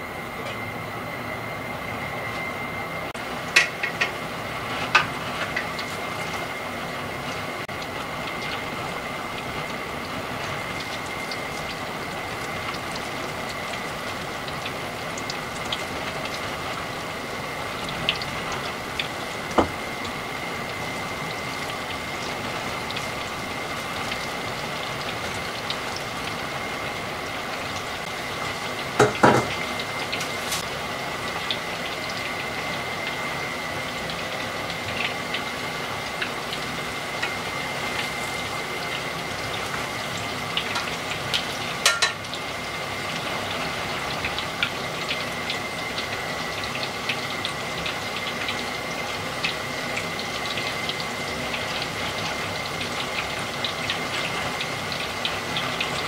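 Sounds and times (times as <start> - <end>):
oil sizzling while deep-frying: 0.0 - 56.0.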